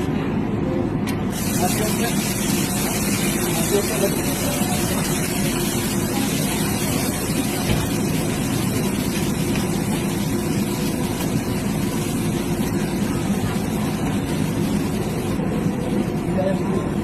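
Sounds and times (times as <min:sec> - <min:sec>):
gas wok burner roaring: 0:00.0 - 0:17.0.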